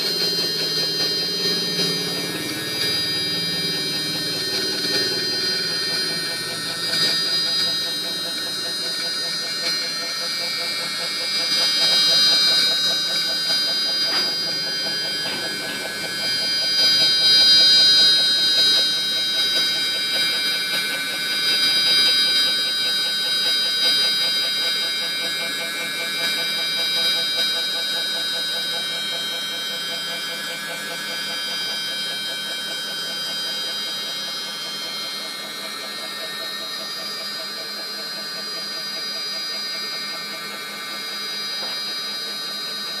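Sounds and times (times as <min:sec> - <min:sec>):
router spindle whine: 0:00.0 - 0:43.0.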